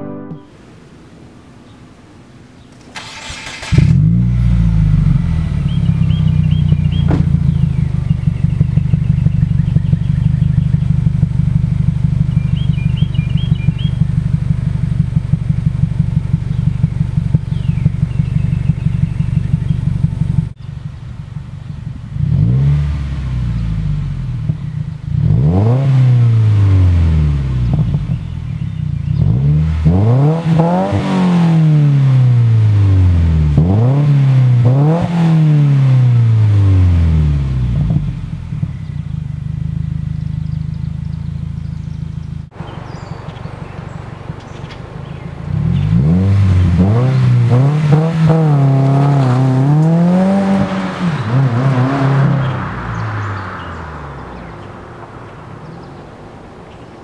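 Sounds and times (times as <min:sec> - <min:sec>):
car engine idling and revving: 0:02.6 - 0:57.0.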